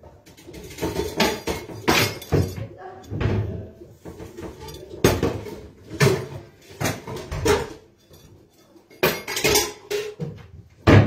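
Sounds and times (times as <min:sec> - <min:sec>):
metal cooking pots clanking: 0:00.0 - 0:11.0.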